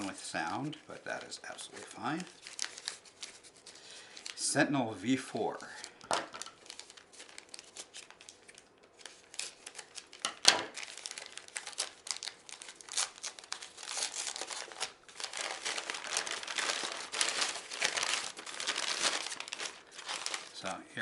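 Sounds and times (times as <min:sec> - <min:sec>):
packaging crinkling and tearing: 0:00.0 - 0:04.5, 0:05.5 - 0:20.8.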